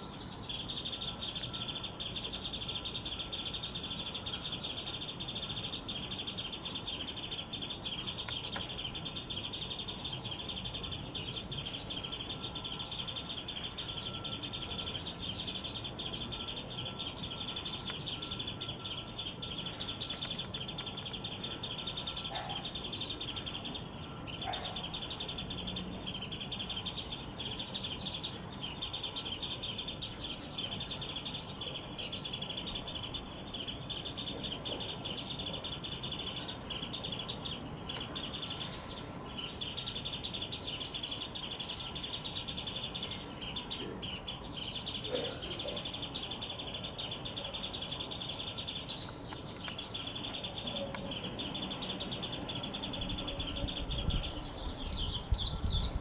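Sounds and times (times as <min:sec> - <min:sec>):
bird chattering: 0:00.0 - 0:56.0.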